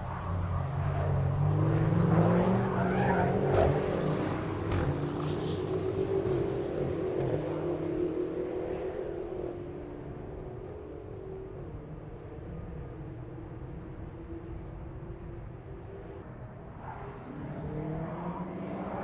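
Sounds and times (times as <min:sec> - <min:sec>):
car engine accelerating: 0:00.3 - 0:19.0.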